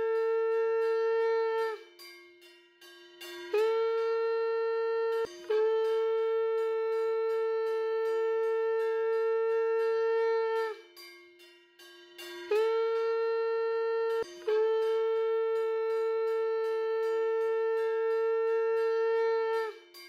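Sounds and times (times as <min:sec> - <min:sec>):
conch shell blasts: 0:00.0 - 0:02.2, 0:03.2 - 0:11.1, 0:12.2 - 0:20.0.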